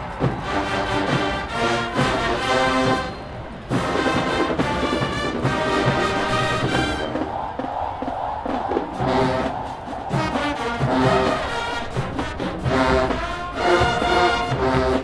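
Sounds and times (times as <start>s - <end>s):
brass band playing held chords: 0.0s - 7.4s, 8.9s - 15.0s.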